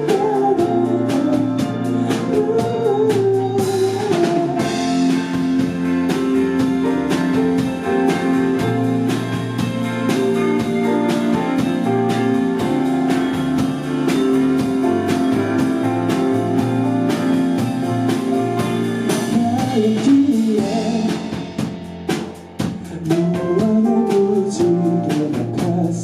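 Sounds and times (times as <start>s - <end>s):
electric guitar playing: 0.0s - 23.0s
drum kit steady beat: 0.0s - 26.0s.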